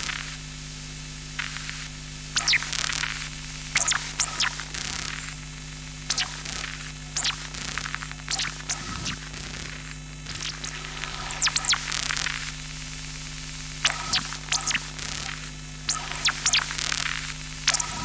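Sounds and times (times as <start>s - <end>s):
electrical hum and static: 0.0s - 18.0s.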